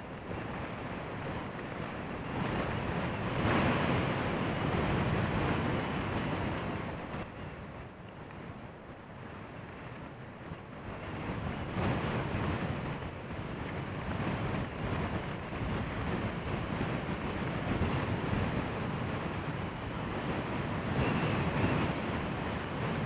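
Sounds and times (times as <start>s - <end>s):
gusty wind on microphone: 0.0s - 7.8s, 10.8s - 23.0s.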